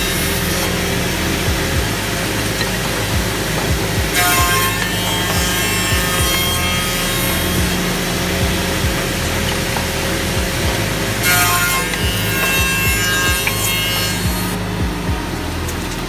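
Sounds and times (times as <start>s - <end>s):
machine milling wood: 0.0s - 16.0s
motor hum: 0.0s - 16.0s.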